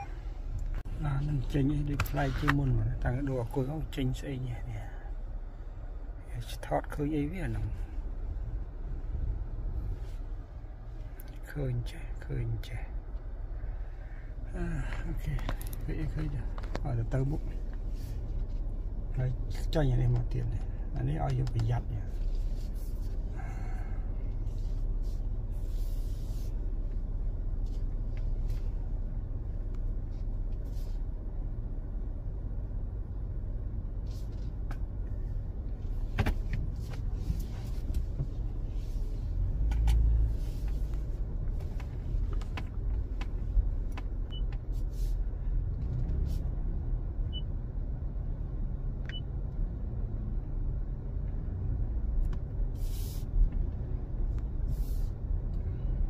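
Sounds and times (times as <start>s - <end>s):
car rumbling from inside cabin: 0.0s - 56.0s.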